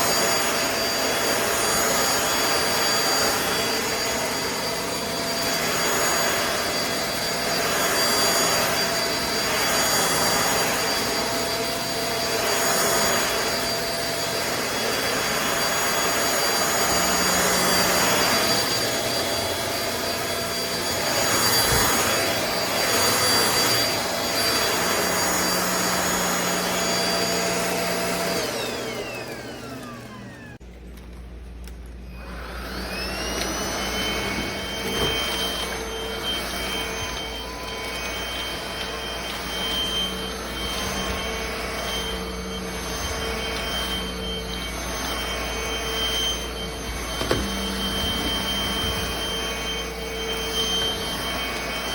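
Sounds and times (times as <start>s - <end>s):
stick vacuum motor whine: 0.0s - 51.9s.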